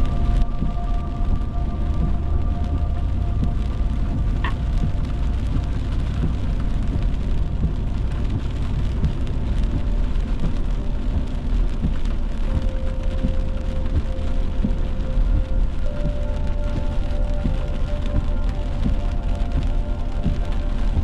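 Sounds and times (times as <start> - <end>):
rain ticking on windshield: 0.0 - 21.0
road and engine rumble: 0.0 - 21.0.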